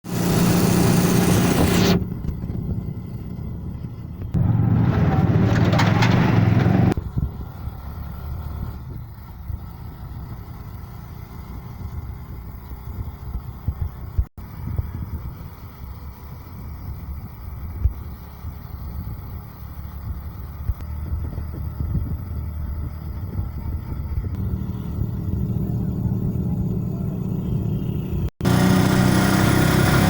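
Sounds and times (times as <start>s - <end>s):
vehicle engine humming: 0.0s - 30.0s
quiet rumble: 0.6s - 28.3s.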